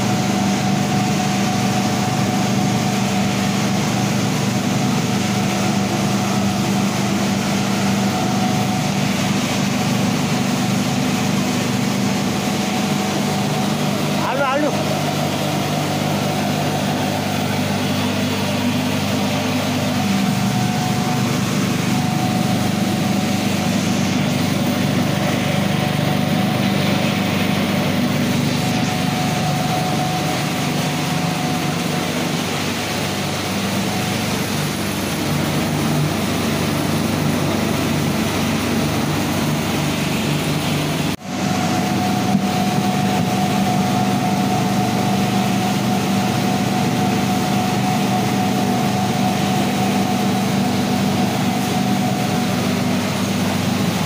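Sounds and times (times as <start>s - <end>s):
pellet mill machine hum: 0.0s - 54.0s.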